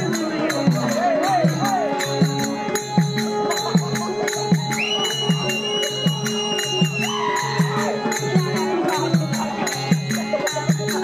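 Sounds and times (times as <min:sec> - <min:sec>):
hand cymbals: 0:00.0 - 0:11.0.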